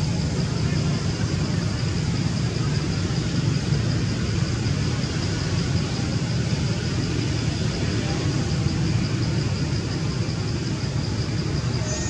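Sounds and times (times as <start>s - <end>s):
faint high steady whine: 0.0s - 12.0s.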